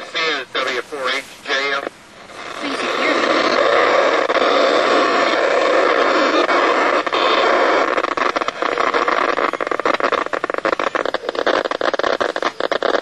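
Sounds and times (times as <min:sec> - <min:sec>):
crackling radio interference pulses: 0:00.0 - 0:13.0
radio receiver hiss: 0:00.0 - 0:13.0.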